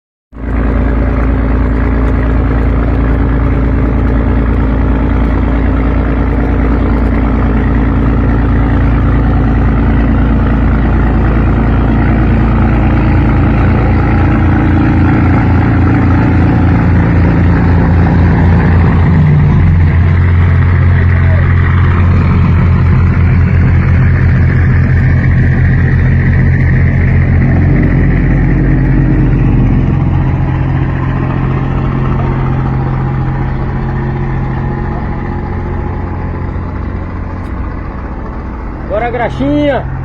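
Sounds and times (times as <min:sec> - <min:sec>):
boat diesel engine running: 0:00.3 - 0:40.0.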